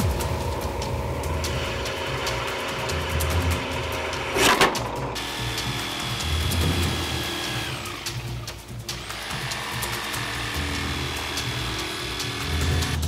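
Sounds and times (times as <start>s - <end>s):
background music: 0.0s - 13.0s
drill press boring plastic: 1.5s - 13.0s
jigsaw motor: 1.5s - 13.0s.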